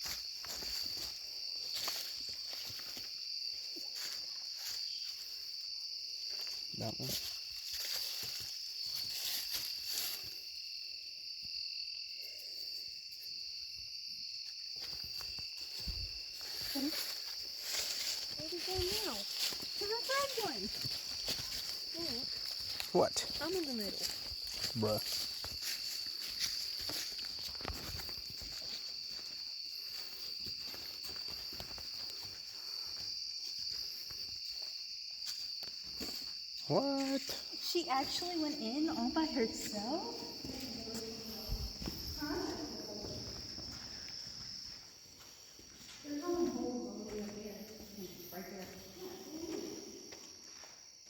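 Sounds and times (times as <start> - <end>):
footsteps: 0.0 - 5.3, 14.7 - 50.8
crickets chirring: 0.0 - 51.0
insects trilling: 0.0 - 51.0.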